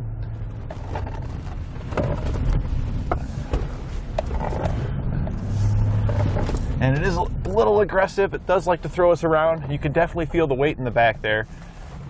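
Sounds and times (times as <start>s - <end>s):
truck road and drivetrain rumble: 0.0s - 12.0s.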